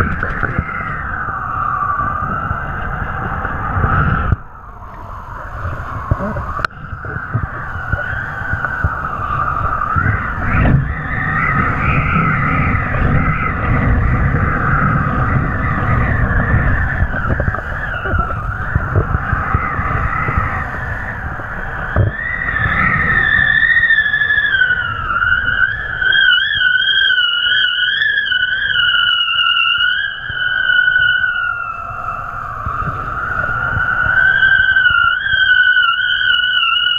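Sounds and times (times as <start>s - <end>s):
wavering whistle: 0.0s - 36.9s
wind buffeting microphone: 0.0s - 36.9s.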